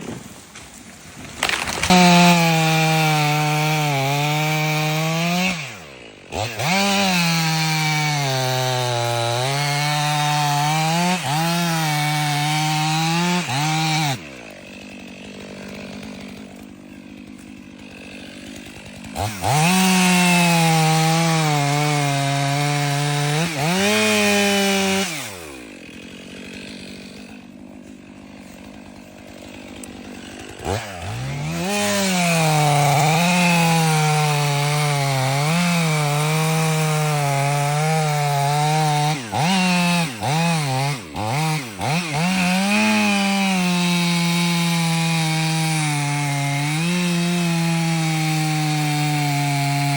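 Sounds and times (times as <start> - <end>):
chainsaw revving and cutting wood: 0.0 - 49.9.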